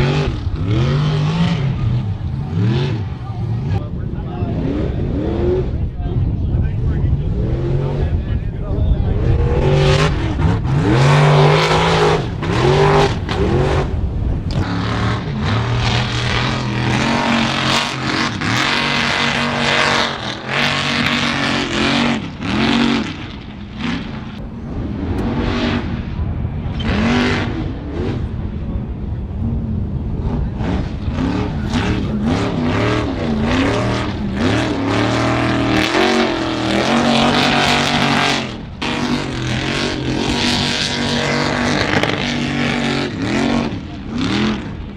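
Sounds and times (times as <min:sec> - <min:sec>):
truck engines revving hard: 0:00.0 - 0:44.9.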